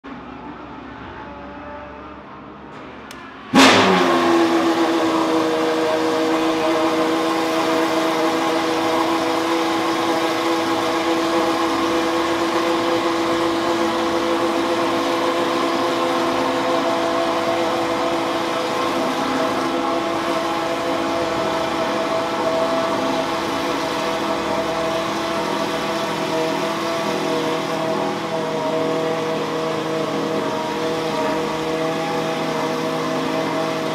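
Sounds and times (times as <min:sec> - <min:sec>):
car engine starting and idling: 0:01.2 - 0:33.9.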